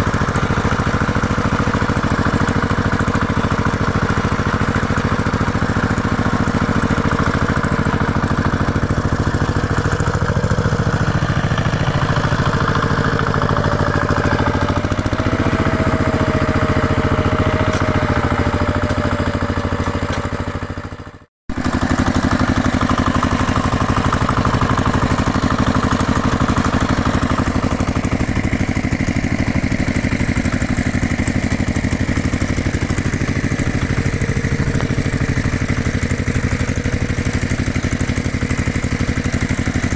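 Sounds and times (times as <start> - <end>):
heavy equipment engine running: 0.0 - 39.9.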